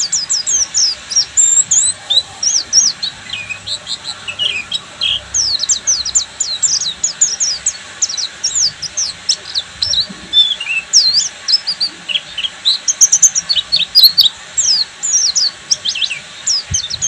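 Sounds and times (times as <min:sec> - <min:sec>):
bird twittering song: 0:00.0 - 0:17.0.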